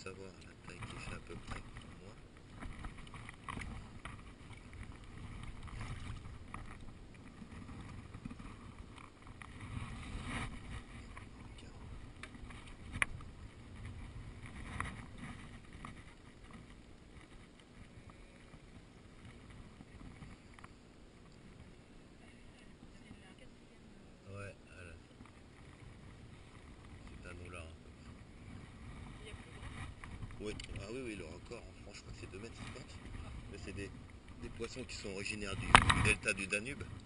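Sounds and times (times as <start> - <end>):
wind rumble on microphone: 0.0 - 24.2, 24.8 - 37.0
water lapping: 0.0 - 37.0.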